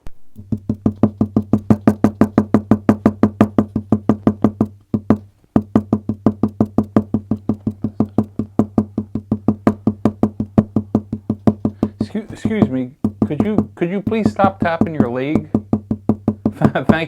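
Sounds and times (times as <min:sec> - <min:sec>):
leg tapping: 0:00.0 - 0:17.0
low steady hum: 0:00.0 - 0:17.0.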